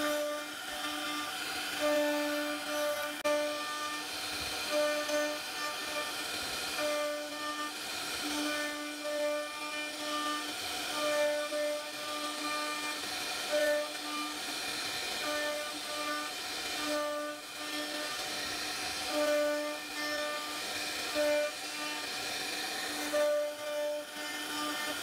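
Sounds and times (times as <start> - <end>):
router spindle whining cutting wood: 0.0 - 25.0.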